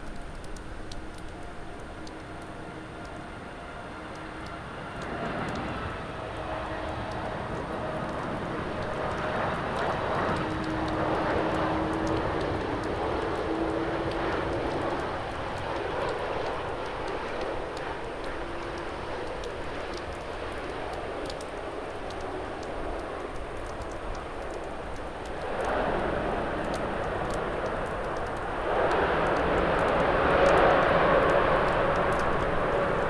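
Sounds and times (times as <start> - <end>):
jet airliner rumble and whine: 0.0 - 33.0.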